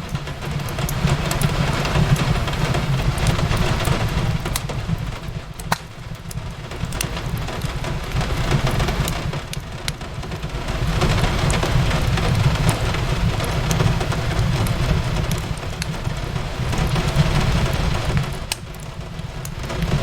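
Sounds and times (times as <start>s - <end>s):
rain on a window: 0.0s - 20.0s
wood fire crackling: 0.0s - 20.0s.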